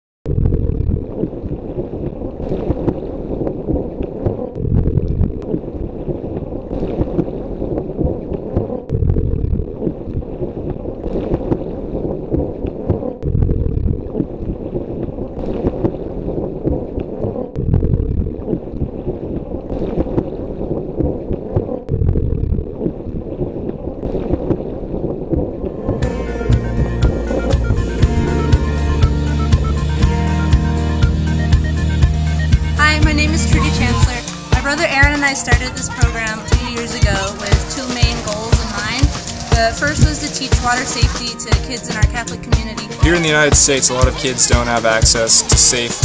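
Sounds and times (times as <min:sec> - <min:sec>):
muffled underwater ambience: 0:00.3 - 0:29.8, 0:32.8 - 0:46.0
low bubbling: 0:00.3 - 0:46.0.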